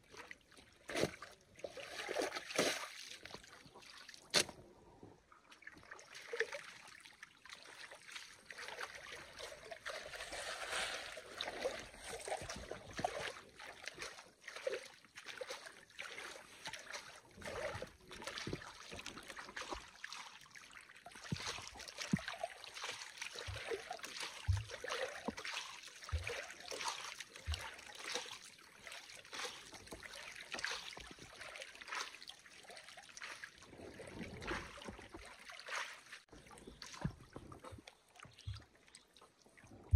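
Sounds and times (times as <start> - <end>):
water sloshing and trickling: 0.0 - 39.9.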